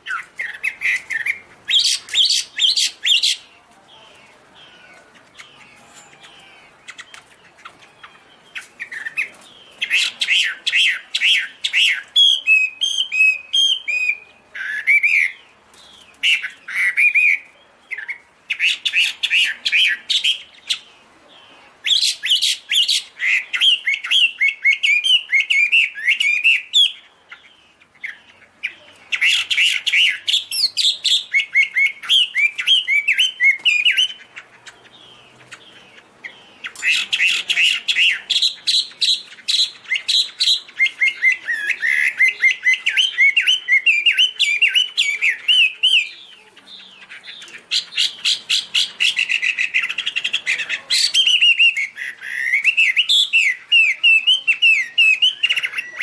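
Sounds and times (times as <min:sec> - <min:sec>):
bird singing whistled notes: 0:00.0 - 0:21.0, 0:21.8 - 0:56.0.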